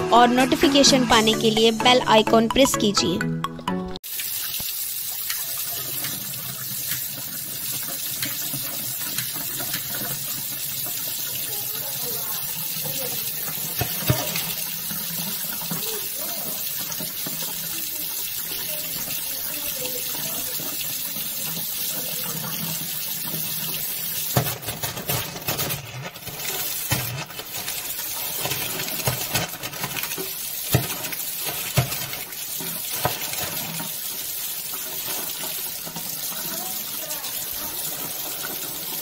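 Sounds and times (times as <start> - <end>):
gas hissing from sink drain: 4.0 - 24.7, 26.2 - 39.0.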